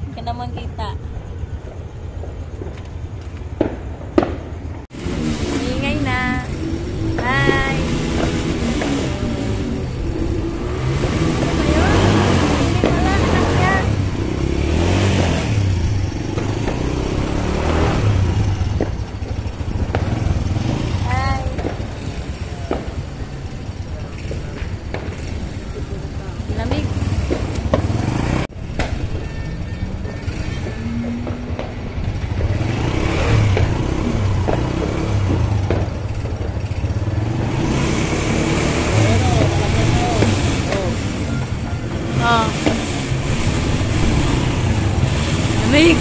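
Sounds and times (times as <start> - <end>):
motorcycle engine droning: 0.0 - 46.0.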